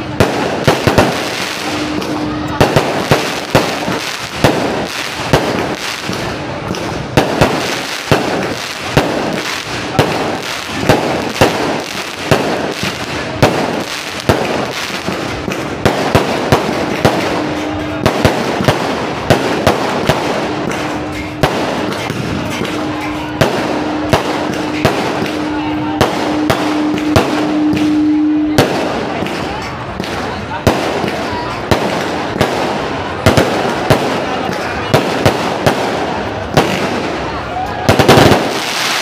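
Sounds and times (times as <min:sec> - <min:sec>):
fireworks crackling: 0:00.0 - 0:39.0
fireworks shells bursting: 0:00.0 - 0:39.0.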